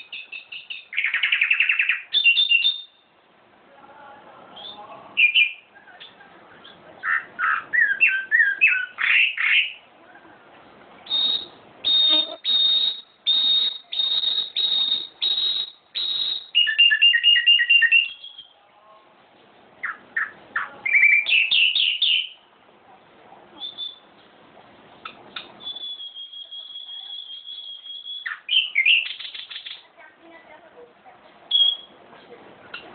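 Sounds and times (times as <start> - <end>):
songbird singing: 0.0 - 3.2, 4.6 - 19.1, 19.7 - 22.6, 23.5 - 24.4, 25.0 - 30.1, 31.5 - 32.1.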